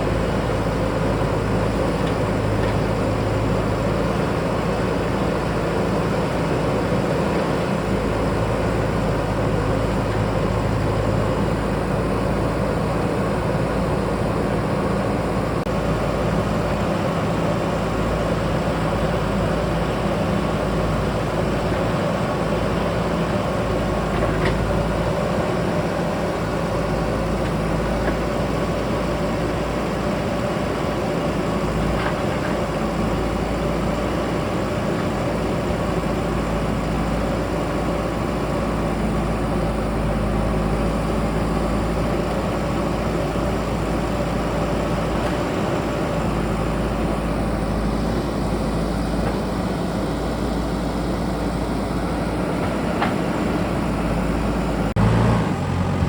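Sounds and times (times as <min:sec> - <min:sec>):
backhoe diesel engine hum: 0:00.0 - 0:56.0.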